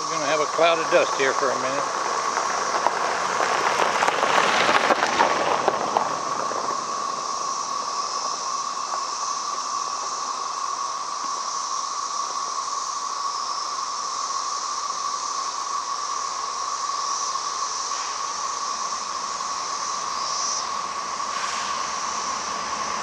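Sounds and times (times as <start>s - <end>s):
crackling rustle: 0.0s - 13.9s, 14.6s - 23.0s
cicadas droning buzz: 0.0s - 23.0s
high hiss: 0.0s - 23.0s.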